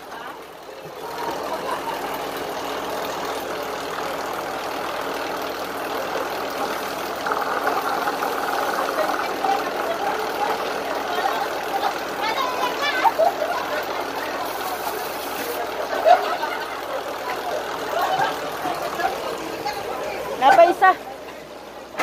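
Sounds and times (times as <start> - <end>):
cart wheels rolling on metal track: 0.0 - 21.0.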